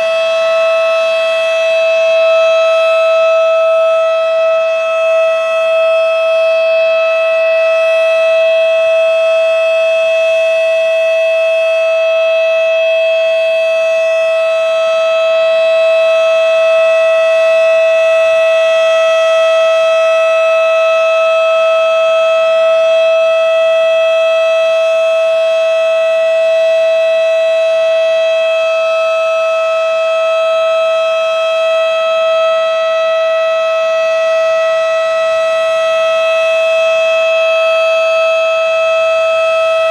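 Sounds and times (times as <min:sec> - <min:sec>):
steady siren tone: 0:00.0 - 0:39.9.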